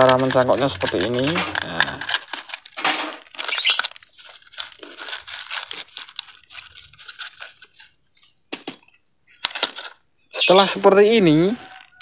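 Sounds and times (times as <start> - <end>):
plastic bottle crinkling: 0.0 - 10.8.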